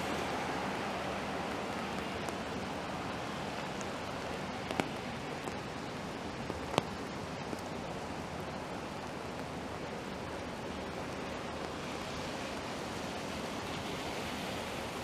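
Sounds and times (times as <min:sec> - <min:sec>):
rain hissing on street: 0:00.0 - 0:15.0.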